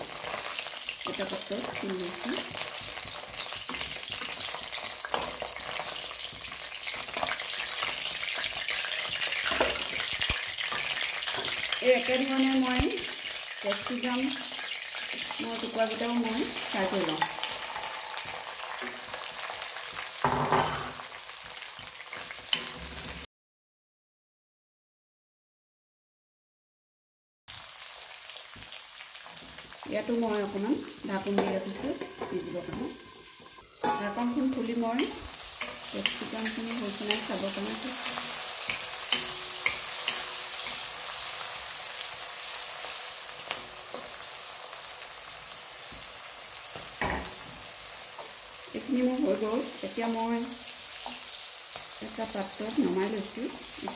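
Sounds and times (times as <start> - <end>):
vegetables sizzling in hot oil: 0.0 - 23.3, 27.5 - 53.9.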